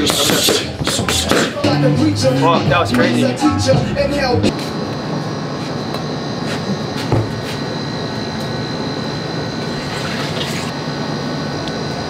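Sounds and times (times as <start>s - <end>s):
mechanical whirring hum: 0.0s - 12.0s.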